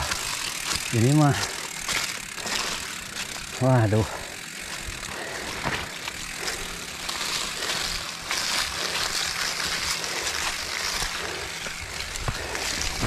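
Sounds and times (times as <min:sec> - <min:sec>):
bike frame and chain rattling: 0:00.0 - 0:13.0
bike tyres rolling on dirt: 0:00.0 - 0:13.0.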